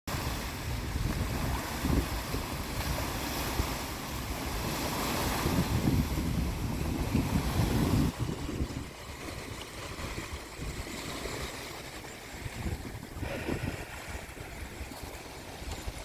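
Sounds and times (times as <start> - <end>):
sea waves rushing: 0.1 - 16.0
wind buffeting microphone: 0.1 - 16.0.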